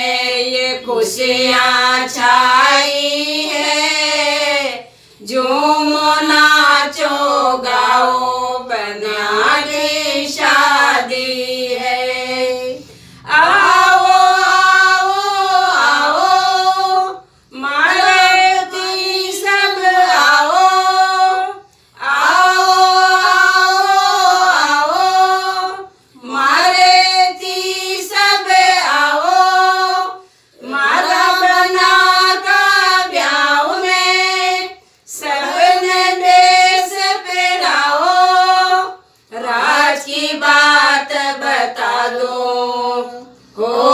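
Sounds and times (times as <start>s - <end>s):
women singing in unison: 0.0s - 43.9s.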